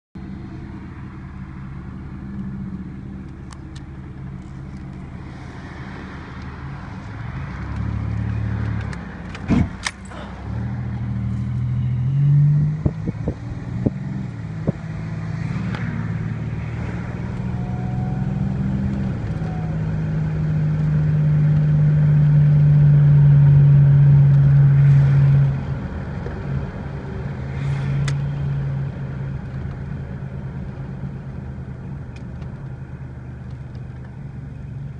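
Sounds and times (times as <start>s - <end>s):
car engine running: 0.2s - 34.9s.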